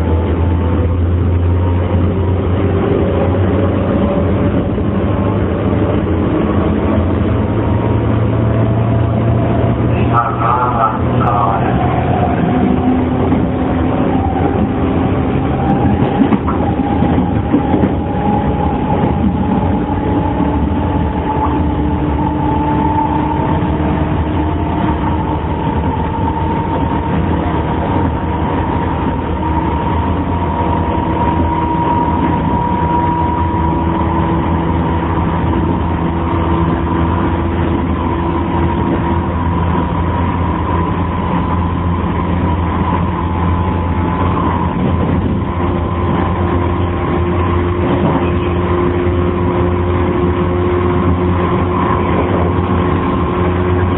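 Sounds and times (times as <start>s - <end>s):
train rumble: 0.0s - 53.9s
wind-like noise: 2.6s - 53.9s.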